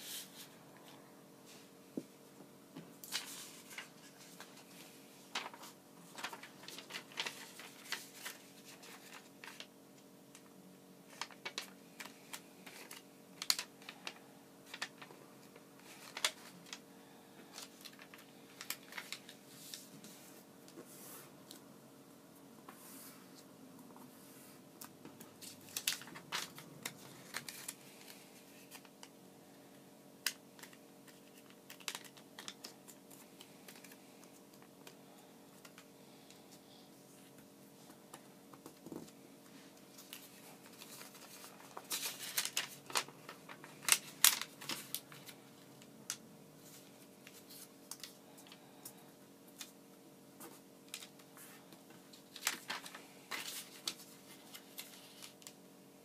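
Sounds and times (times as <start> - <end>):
faint steady hum: 0.0 - 56.0
paper rustling: 3.0 - 10.5, 11.1 - 16.9, 17.5 - 21.6, 22.7 - 29.2, 30.2 - 35.0, 36.5 - 49.8, 50.4 - 55.6.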